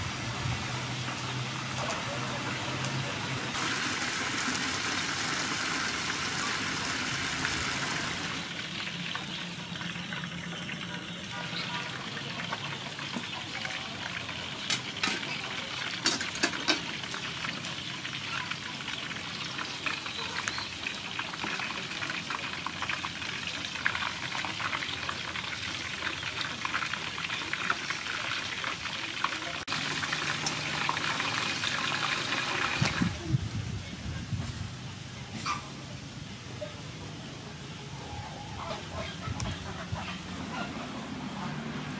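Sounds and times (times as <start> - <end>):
meat deep-frying in hot oil: 0.0 - 34.0.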